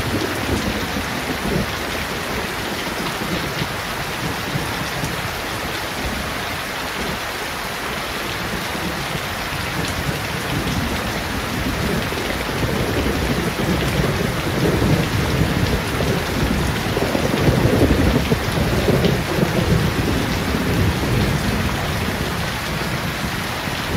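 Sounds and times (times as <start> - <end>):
rain on leaves and pavement: 0.0 - 23.9.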